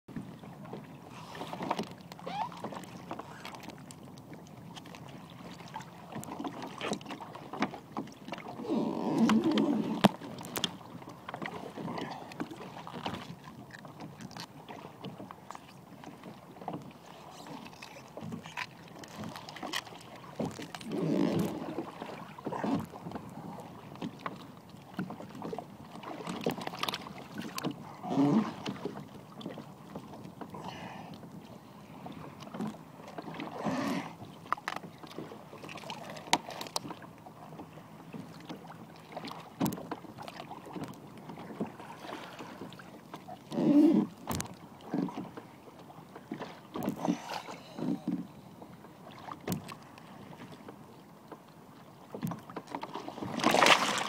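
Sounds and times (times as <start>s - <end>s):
water lapping around a boat: 0.1s - 54.0s.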